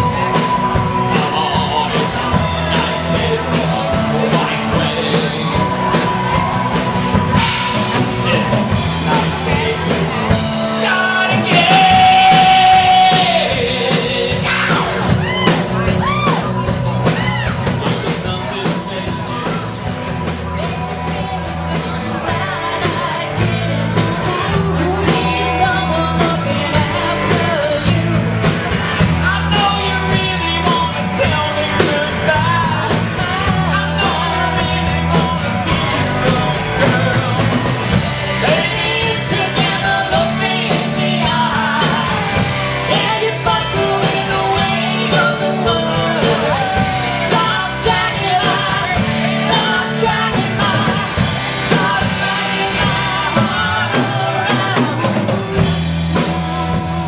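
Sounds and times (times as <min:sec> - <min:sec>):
bass guitar: 0:00.0 - 0:57.0
electric guitar: 0:00.0 - 0:57.0
person singing lead vocal: 0:00.0 - 0:57.0
steady drum beat: 0:00.0 - 0:57.0.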